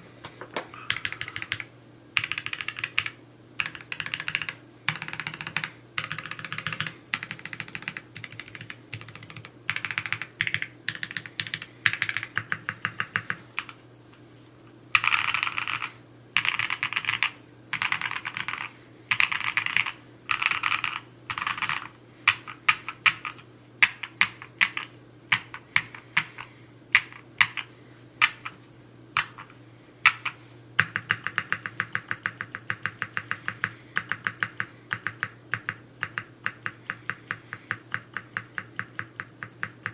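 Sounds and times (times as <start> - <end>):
mechanical keyboard typing: 0.8 - 13.8, 15.0 - 28.6, 30.1 - 39.9.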